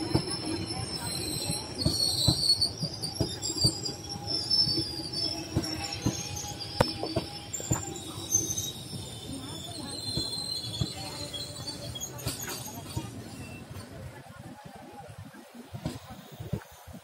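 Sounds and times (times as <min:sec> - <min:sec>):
train wheels clattering over joints: 0:00.0 - 0:14.0
high squealing of wheel on rail: 0:00.0 - 0:14.1.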